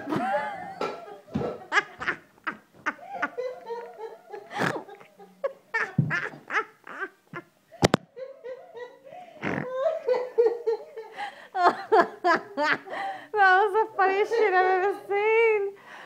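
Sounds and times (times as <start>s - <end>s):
women laughing: 0.0s - 15.8s.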